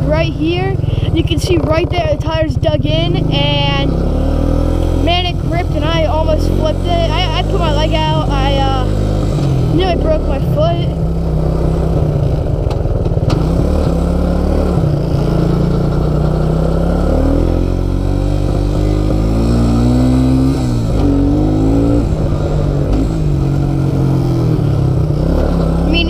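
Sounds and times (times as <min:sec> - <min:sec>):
atv engine revving: 0:00.0 - 0:26.0.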